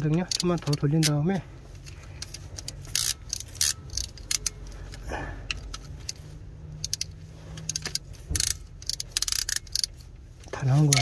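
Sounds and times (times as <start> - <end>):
wrench clicking on metal: 0.0 - 1.2, 1.8 - 10.0.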